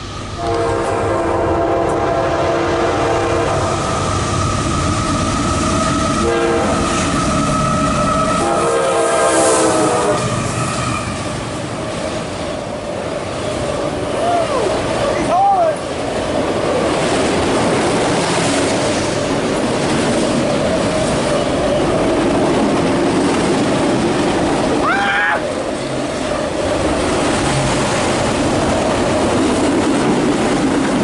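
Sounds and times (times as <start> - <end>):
freight train rumbling and rattling: 0.0 - 31.0.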